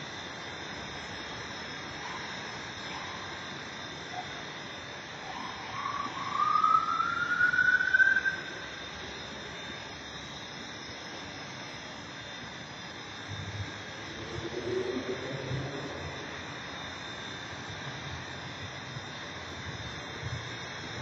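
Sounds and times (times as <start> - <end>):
rc helicopter hovering: 0.0 - 21.0.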